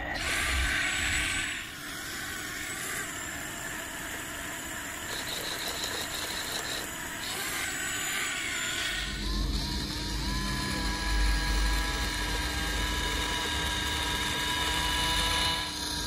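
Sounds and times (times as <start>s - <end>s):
mechanical running noise: 0.0s - 16.0s.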